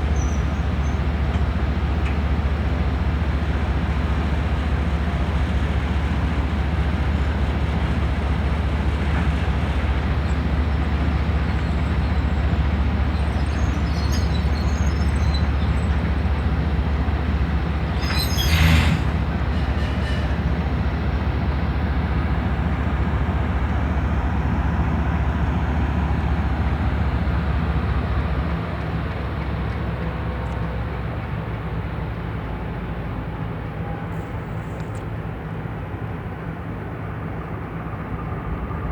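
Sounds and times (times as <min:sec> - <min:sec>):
diesel locomotive engine humming: 0:00.0 - 0:38.9.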